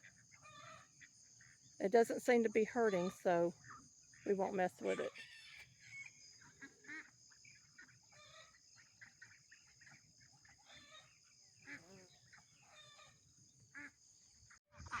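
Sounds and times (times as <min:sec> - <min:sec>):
poultry clucking: 0:00.0 - 0:13.2, 0:14.8 - 0:15.0
insects trilling: 0:00.0 - 0:14.6.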